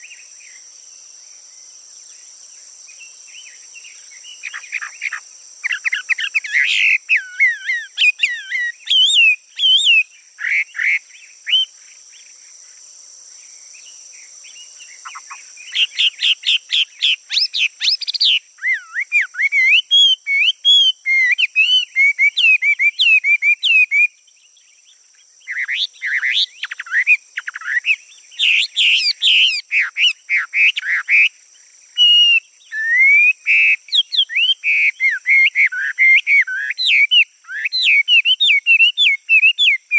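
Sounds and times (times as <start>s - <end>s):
high-pitched insect-like whine: 0.0s - 32.8s
songbird singing: 0.0s - 39.9s.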